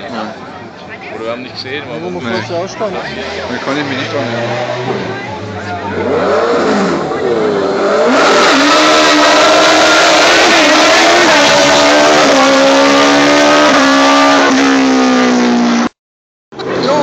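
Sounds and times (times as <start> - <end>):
race car engine running hard: 0.1 - 15.9.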